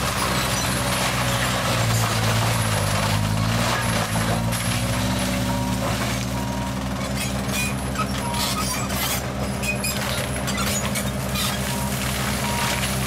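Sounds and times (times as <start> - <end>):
debris cracking against rotor: 0.0 - 13.0
engine droning under load: 0.0 - 13.0.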